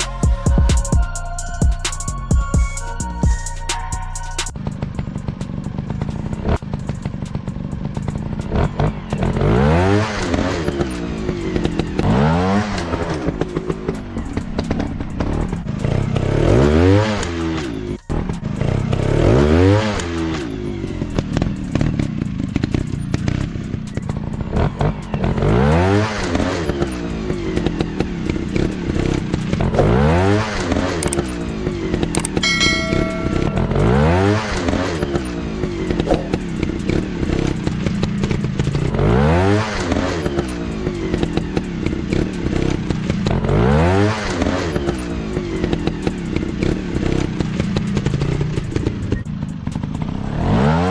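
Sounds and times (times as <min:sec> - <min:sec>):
motorcycle engines revving: 0:04.1 - 0:50.9.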